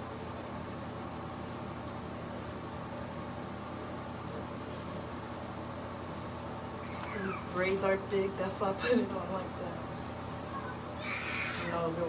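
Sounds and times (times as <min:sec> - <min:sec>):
low constant hum: 0:00.0 - 0:12.0.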